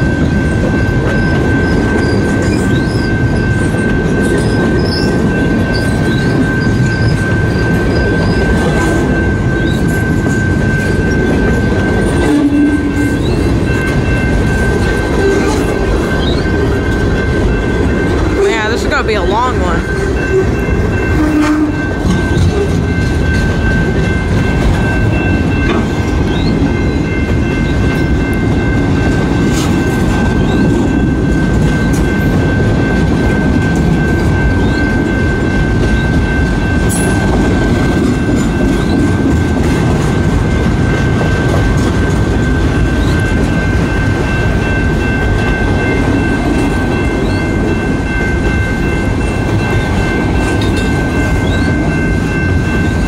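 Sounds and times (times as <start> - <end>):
high-pitched ringing tone: 0.0 - 53.0
train wheels rumbling on rails: 0.0 - 53.0.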